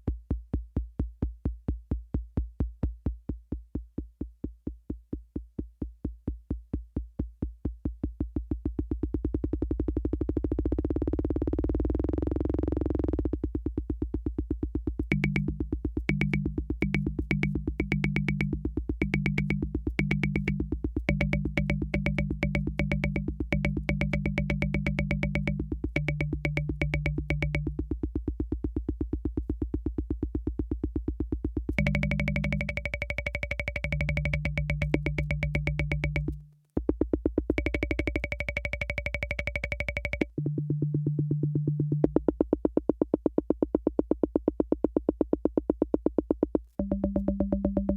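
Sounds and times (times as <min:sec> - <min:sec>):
drum machine ticking pulse: 0:00.0 - 0:47.9.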